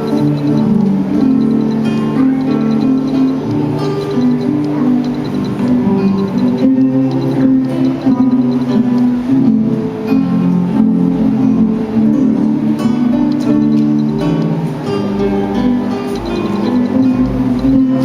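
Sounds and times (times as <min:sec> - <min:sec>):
instrumental music: 0:00.0 - 0:18.0.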